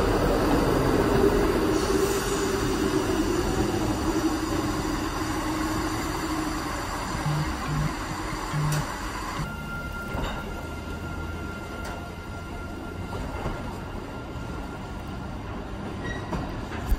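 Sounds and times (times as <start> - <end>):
diesel locomotive engine drone: 0.0 - 16.9
wheels rumbling on track: 0.0 - 16.9.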